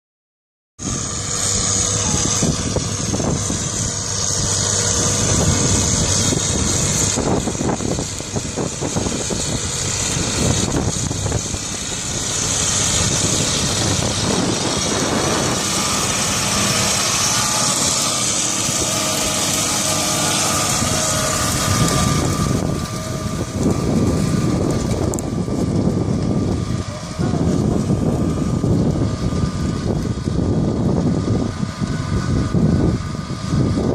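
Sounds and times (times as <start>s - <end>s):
tractor diesel engine running: 0.8s - 33.9s.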